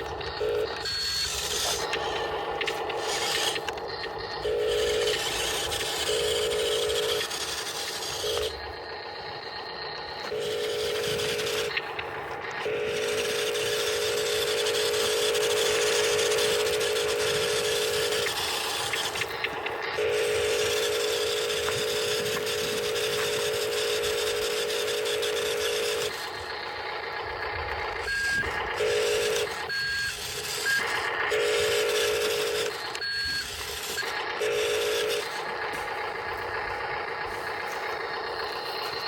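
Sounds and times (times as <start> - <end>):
electric motors and gearboxes whirring: 0.0 - 39.0
steady buzzing tone: 0.0 - 39.0.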